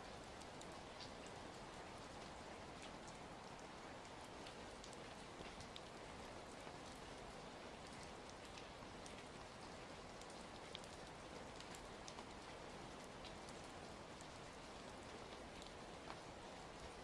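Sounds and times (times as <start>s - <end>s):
soft steady rain: 0.0s - 17.0s.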